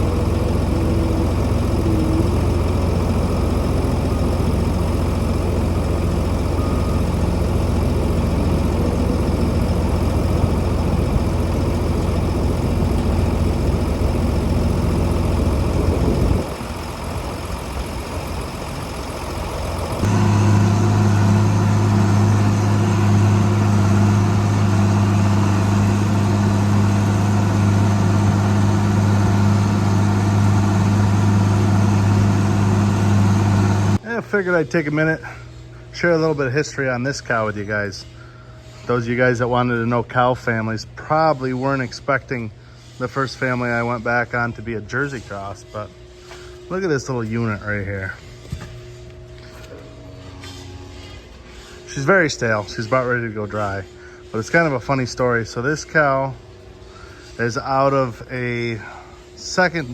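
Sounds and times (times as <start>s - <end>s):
louder low-pitched hum: 0.0s - 59.9s
machinery humming: 0.0s - 59.9s.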